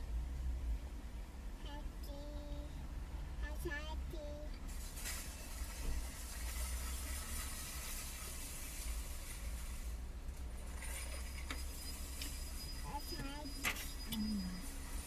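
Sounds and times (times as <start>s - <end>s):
car cabin rumble and hiss: 0.0s - 15.0s.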